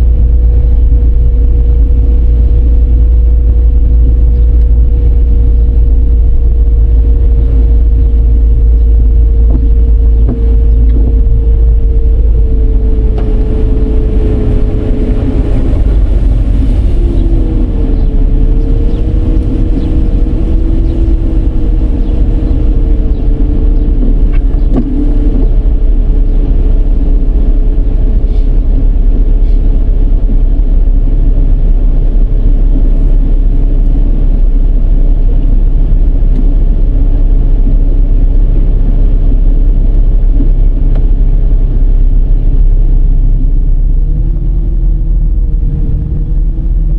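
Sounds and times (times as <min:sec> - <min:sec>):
faint wavering whine: 0:00.0 - 0:46.9
road and tyre noise: 0:00.0 - 0:46.9.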